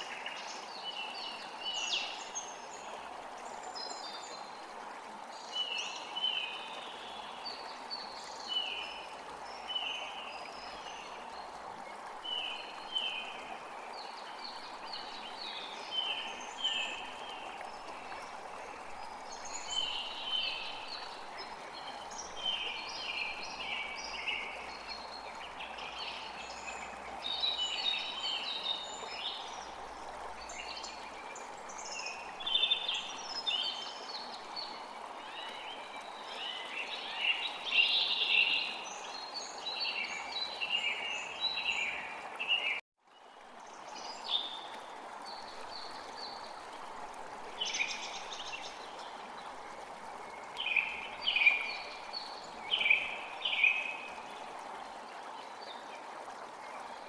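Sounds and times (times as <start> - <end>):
running stream water: 0.0 - 57.0.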